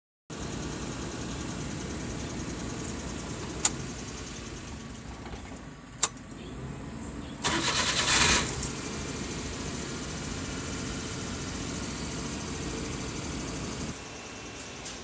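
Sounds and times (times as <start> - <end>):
car engine idling: 0.4 - 14.0.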